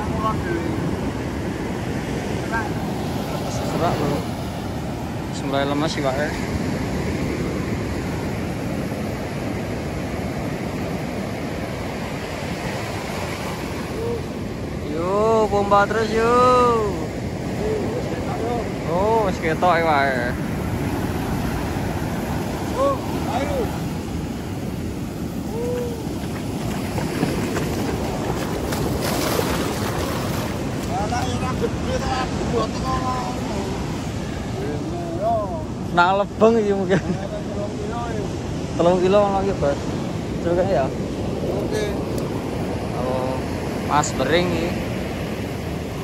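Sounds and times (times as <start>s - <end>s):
surf washing up beach: 0.0s - 46.0s
wind buffeting microphone: 0.0s - 46.0s.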